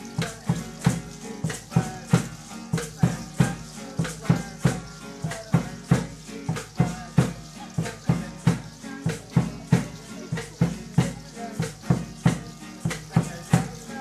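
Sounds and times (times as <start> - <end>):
shaken rattles: 0.0 - 14.0
strummed guitar: 0.0 - 14.0.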